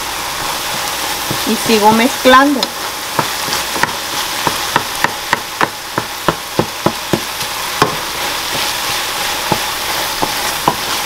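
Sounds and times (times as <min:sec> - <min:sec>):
meat sizzling in a skillet: 0:00.0 - 0:11.0
wooden spatula knocking on pan: 0:00.7 - 0:02.0, 0:02.6 - 0:11.0.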